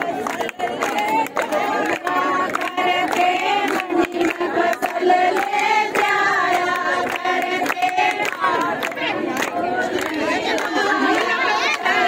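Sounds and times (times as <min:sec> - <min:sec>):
crowd clapping along: 0:00.0 - 0:12.0
women singing together: 0:00.0 - 0:12.0.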